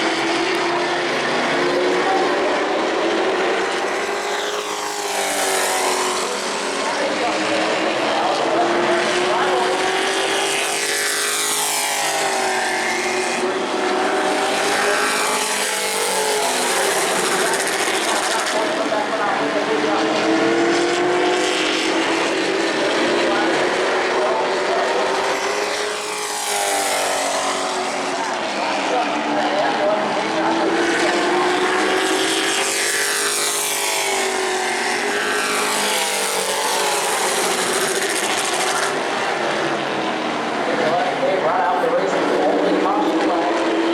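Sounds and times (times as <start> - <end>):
race truck engines passing: 0.0 - 43.9.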